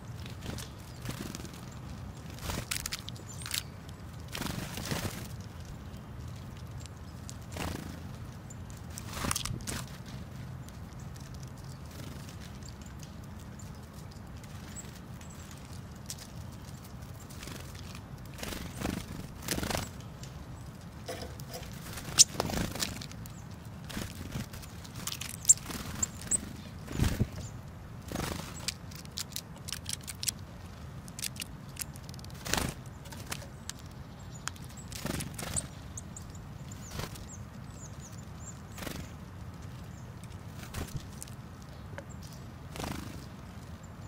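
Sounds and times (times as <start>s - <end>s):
birds pecking at seeds: 0.0s - 44.0s.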